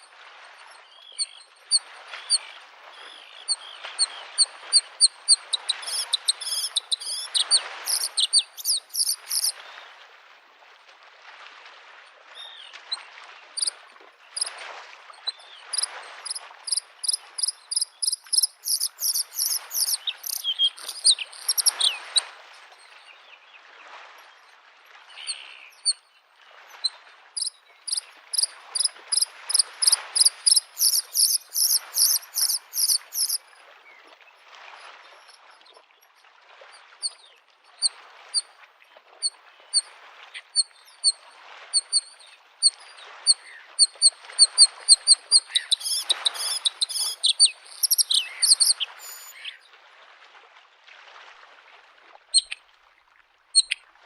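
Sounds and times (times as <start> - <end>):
small waves lapping shore: 0.0 - 54.0.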